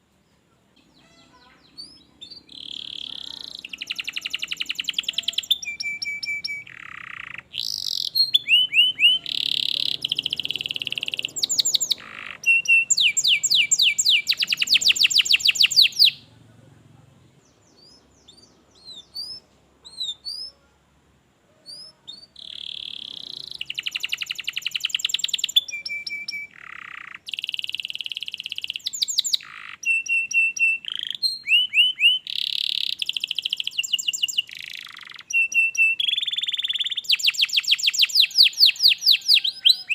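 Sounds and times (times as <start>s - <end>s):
canary singing trills: 0.6s - 16.4s, 17.4s - 20.8s, 21.5s - 39.9s.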